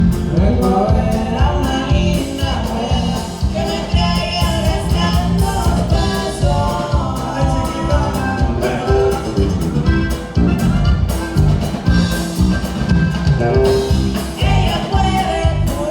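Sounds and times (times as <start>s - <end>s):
heavy bass: 0.0s - 15.9s
live band playing: 0.0s - 15.9s
pitched melody: 0.0s - 15.9s
steady drum beat: 0.0s - 15.9s.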